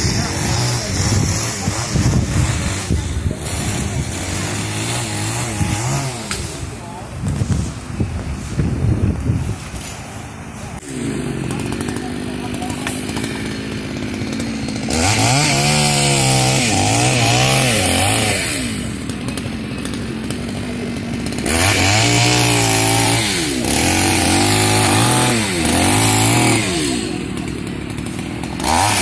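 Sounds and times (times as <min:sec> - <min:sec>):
chainsaw idling and cutting wood: 0:00.0 - 0:08.5, 0:09.5 - 0:29.0.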